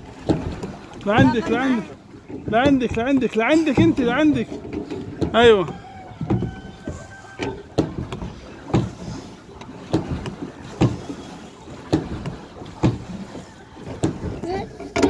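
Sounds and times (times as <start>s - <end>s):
hiss of water and wind: 0.0s - 15.0s
pedal boat mechanism knocking: 0.0s - 15.0s.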